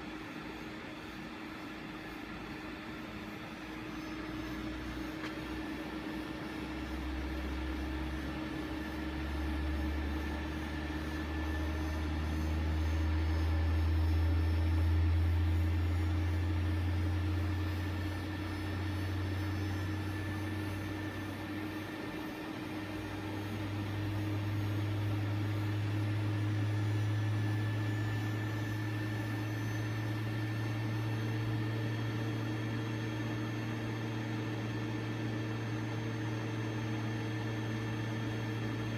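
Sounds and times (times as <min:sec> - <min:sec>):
centrifuge motor hum rising: 0:00.0 - 0:38.9
steady higher hum: 0:00.0 - 0:38.9.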